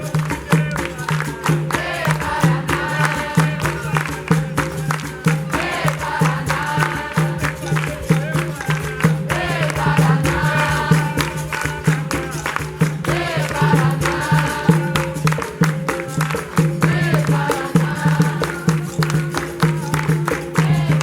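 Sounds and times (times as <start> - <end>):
berimbau: 0.0 - 21.0
group singing: 0.0 - 21.0
pandeiro: 0.0 - 21.0
sharp percussive strikes: 0.0 - 21.0.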